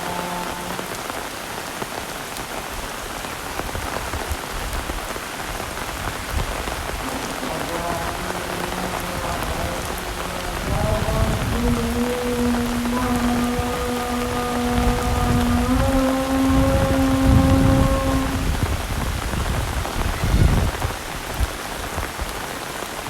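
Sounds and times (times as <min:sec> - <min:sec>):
heavy rain hissing: 0:00.0 - 0:23.0
raindrops ticking close by: 0:00.0 - 0:23.0.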